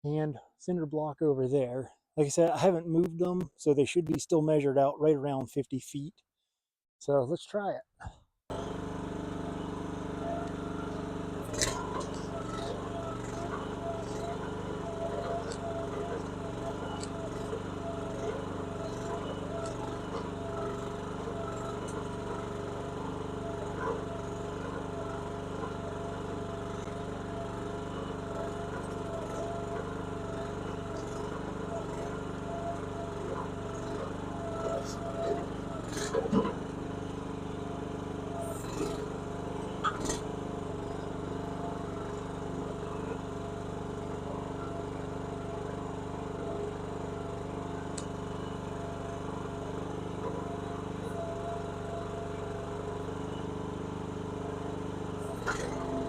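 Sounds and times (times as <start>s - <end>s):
skid steer engine running: 2.2s - 5.4s, 8.5s - 56.0s.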